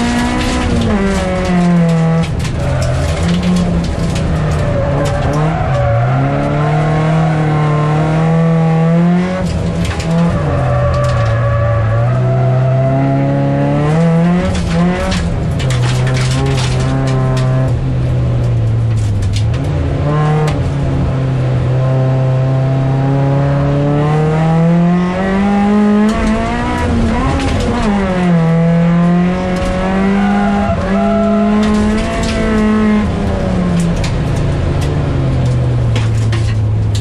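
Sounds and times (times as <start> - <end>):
car knocks and rattles: 0.0 - 12.3, 13.0 - 21.2, 24.0 - 37.0
car engine revving: 0.0 - 37.0.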